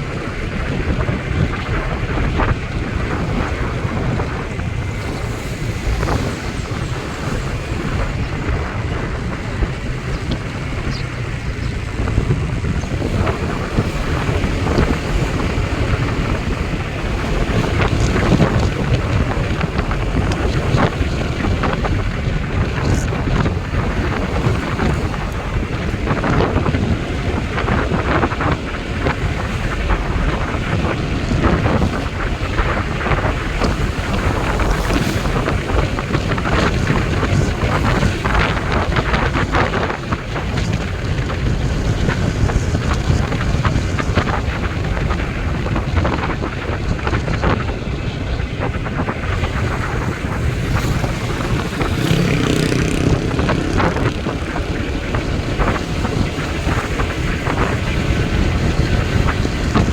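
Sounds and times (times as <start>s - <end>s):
wind blowing across microphone: 0.0s - 59.9s.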